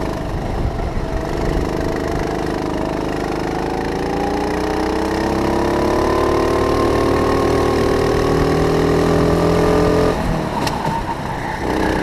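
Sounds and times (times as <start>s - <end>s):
go-kart engine revving: 0.0s - 12.0s.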